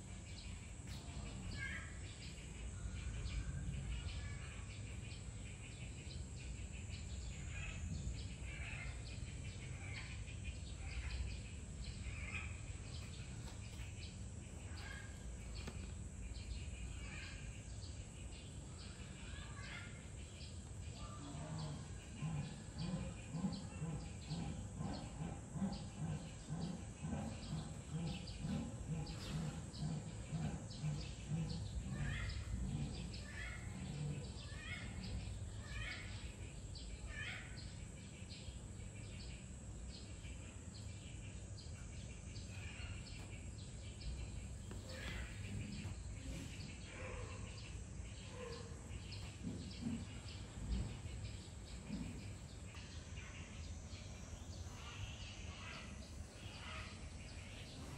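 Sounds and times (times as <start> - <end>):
outdoor background noise: 0.0 - 57.9
small birds chirping: 0.0 - 57.9.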